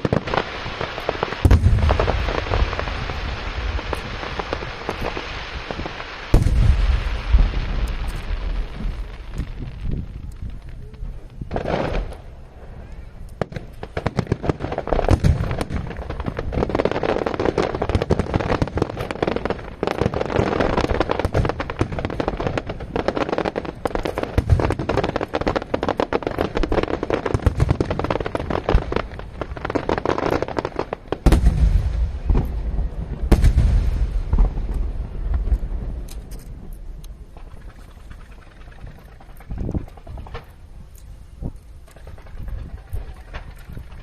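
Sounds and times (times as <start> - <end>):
deep firework booms: 0.0 - 40.7
fireworks crackling pops and bangs: 0.0 - 44.0.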